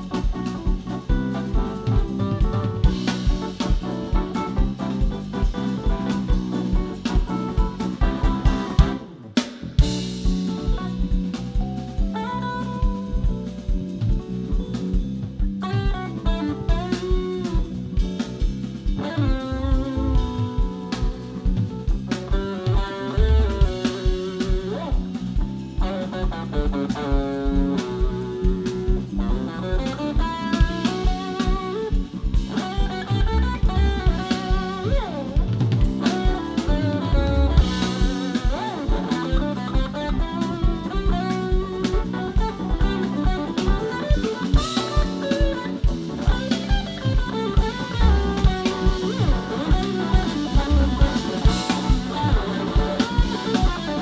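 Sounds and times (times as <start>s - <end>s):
bass guitar: 0.0s - 54.0s
drum kit beat: 0.0s - 54.0s
electric guitar lines: 0.0s - 54.0s.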